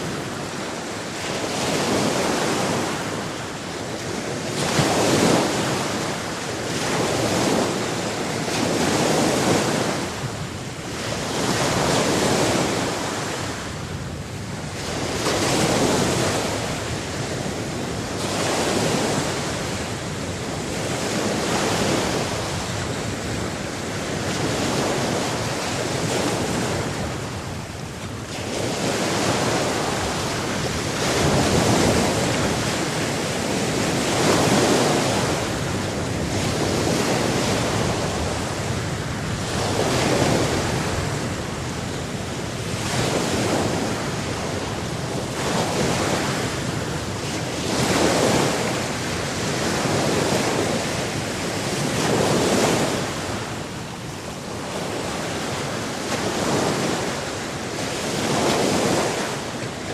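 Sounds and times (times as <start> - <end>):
sea waves washing in and out: 0.0 - 59.9.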